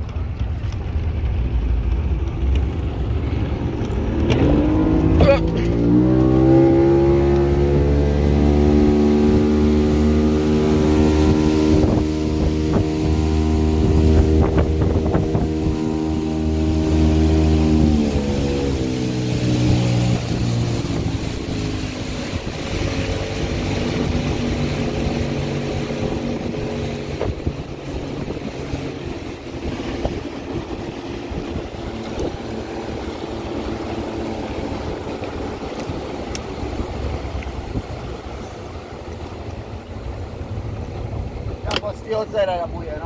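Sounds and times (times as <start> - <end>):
motorboat engine humming: 0.0 - 43.0
wind and water rushing: 0.0 - 43.0.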